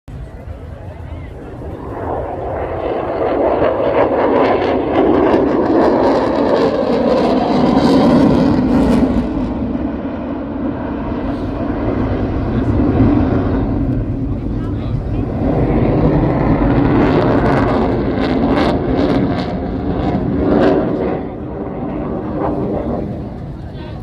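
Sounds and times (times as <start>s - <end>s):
jet flying past: 0.1s - 24.0s.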